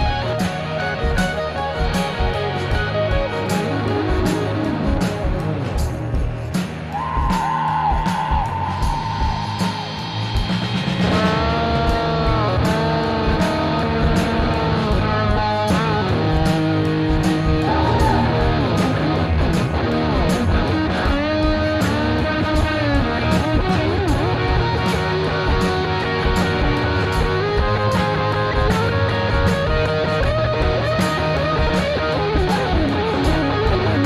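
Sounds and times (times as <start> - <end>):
bass: 0.0 - 34.0
electric guitar lead: 0.0 - 34.0
steady drum beat: 0.0 - 34.0.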